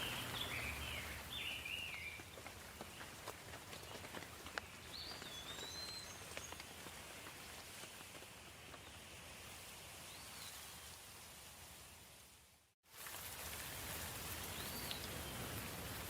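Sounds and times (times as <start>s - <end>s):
soft rain falling: 0.0s - 16.0s.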